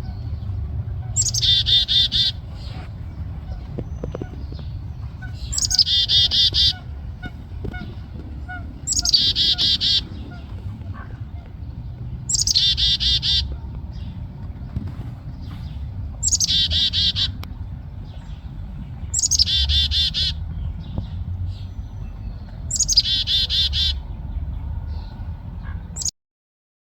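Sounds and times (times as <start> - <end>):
low steady rumble: 0.0 - 26.0
songbird singing: 0.0 - 26.1.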